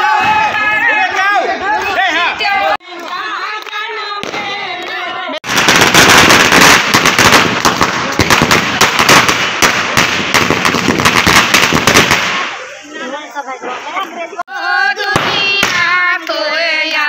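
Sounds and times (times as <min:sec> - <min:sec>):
firecrackers crackling: 0:02.6 - 0:17.0.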